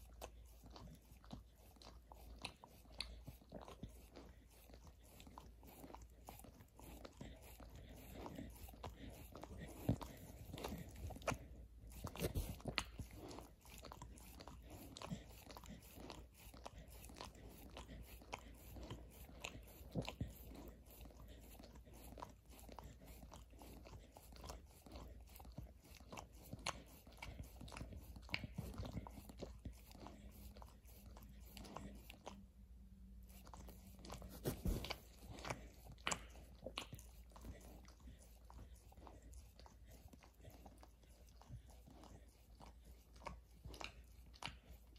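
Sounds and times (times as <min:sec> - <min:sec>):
dog crunching and chewing: 0:00.0 - 0:44.9.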